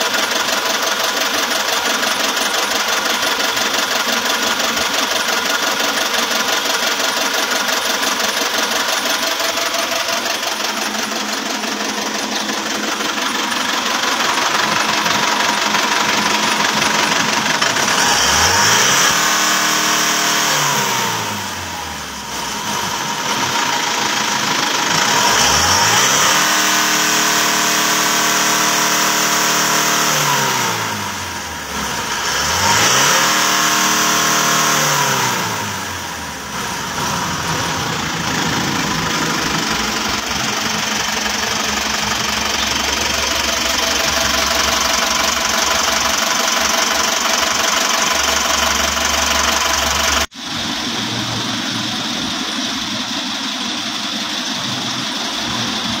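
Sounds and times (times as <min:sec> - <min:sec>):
diesel engine revving and idling: 0:00.0 - 0:56.0.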